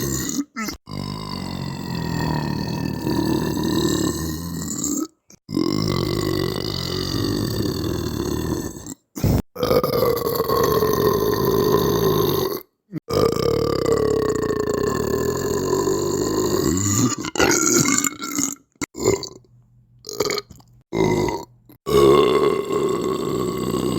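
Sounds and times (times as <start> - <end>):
person belching: 0.0 - 19.5, 20.1 - 23.9.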